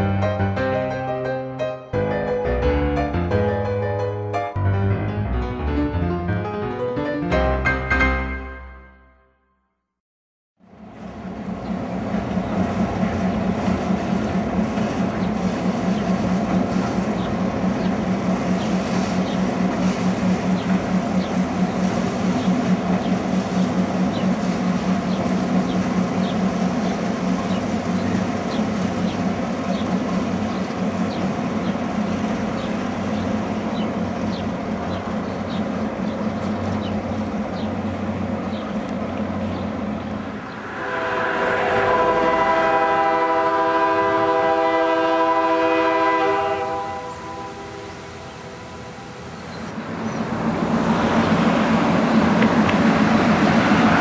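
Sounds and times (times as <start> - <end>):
diesel locomotive engine drone: 10.6 - 54.0.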